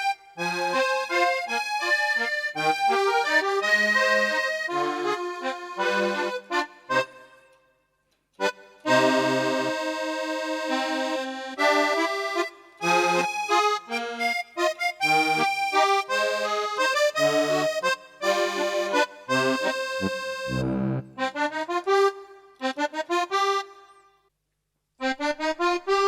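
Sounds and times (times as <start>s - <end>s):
keyboard accordion chords and bass: 0.0s - 7.6s, 8.4s - 24.1s, 25.0s - 26.0s.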